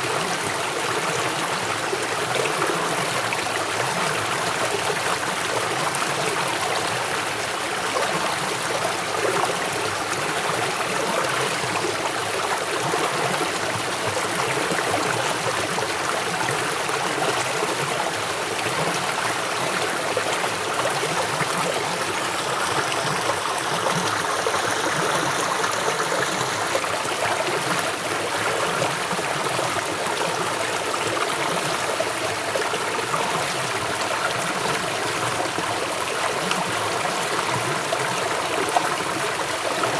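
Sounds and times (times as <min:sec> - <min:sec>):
river water flowing swiftly: 0:00.0 - 0:39.9.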